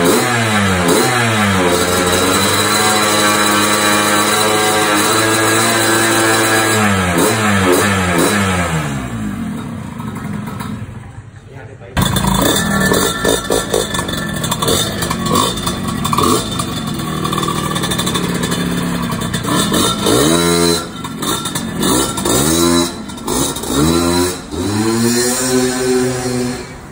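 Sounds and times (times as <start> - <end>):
scooter engine revving: 0.0 - 26.9.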